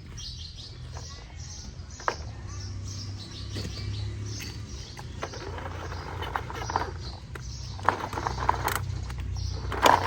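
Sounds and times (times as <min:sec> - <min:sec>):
small birds chirping: 0:00.0 - 0:10.0
diesel engine running: 0:01.6 - 0:10.0.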